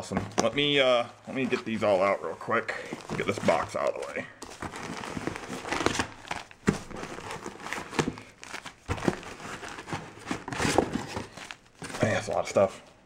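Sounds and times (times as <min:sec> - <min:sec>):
packing paper crinkling: 0:00.0 - 0:12.9.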